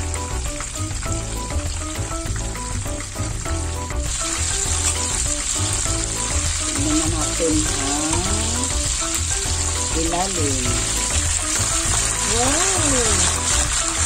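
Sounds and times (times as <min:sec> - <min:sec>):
background music with low beat: 0:00.0 - 0:14.0
chicken sizzling in hot oil: 0:00.0 - 0:14.0.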